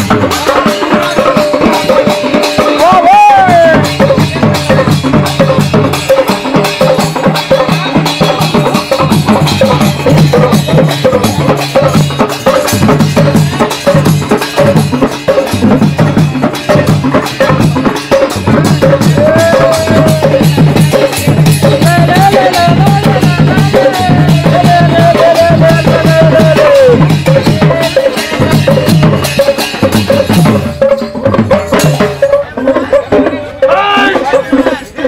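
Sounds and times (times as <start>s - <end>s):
deep drum pattern: 0.0s - 35.0s
fast dense drumming: 0.0s - 35.0s.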